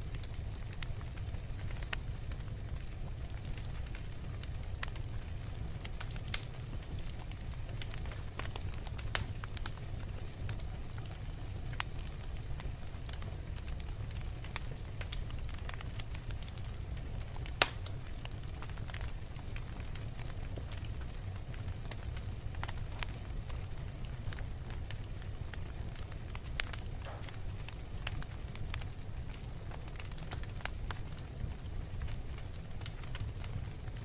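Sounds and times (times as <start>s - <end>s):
logs crackling and popping: 0.0s - 34.0s
low rumble of flames: 0.0s - 34.0s.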